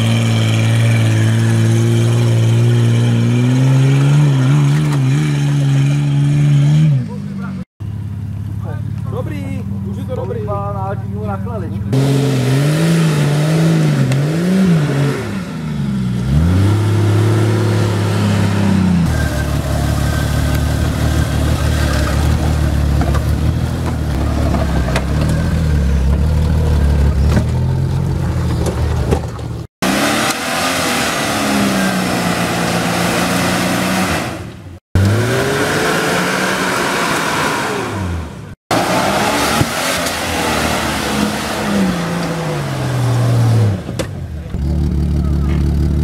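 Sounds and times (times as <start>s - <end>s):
off-road engines revving hard: 0.0s - 7.6s, 11.9s - 46.0s.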